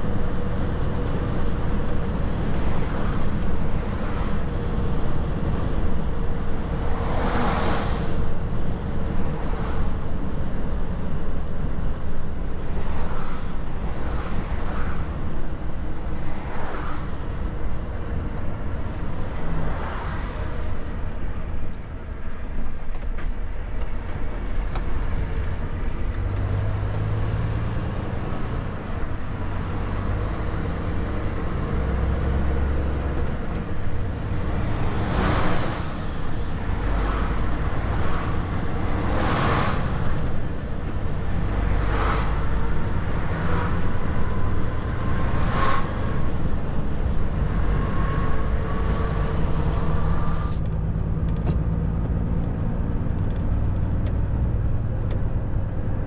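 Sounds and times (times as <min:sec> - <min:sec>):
truck diesel engine rumble: 0:00.0 - 0:19.8, 0:20.4 - 0:56.0.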